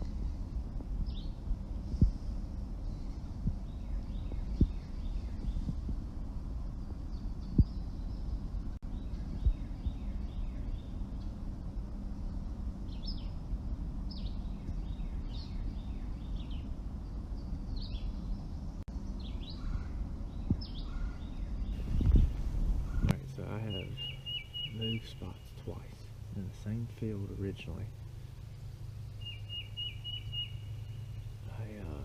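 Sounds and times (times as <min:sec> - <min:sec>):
low outdoor rumble: 0:00.0 - 0:32.0
small songbirds chirping: 0:00.0 - 0:32.0.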